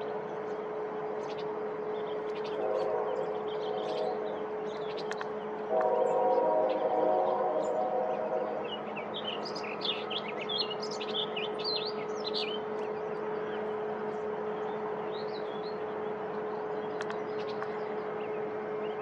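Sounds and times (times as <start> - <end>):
droning sound with overtones: 0.0 - 19.0
steady low hum: 0.0 - 19.0.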